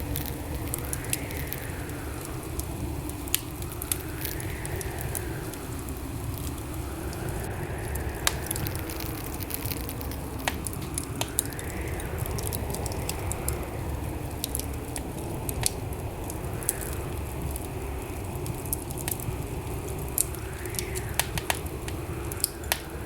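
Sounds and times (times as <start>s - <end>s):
fire crackles and pops: 0.0s - 23.0s
fire flames rumbling: 0.0s - 23.0s
soft hiss: 0.0s - 23.0s.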